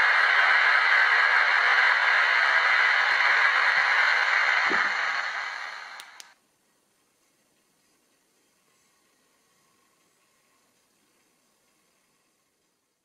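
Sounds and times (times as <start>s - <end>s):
model train steam hiss: 0.0s - 6.4s, 8.5s - 13.0s.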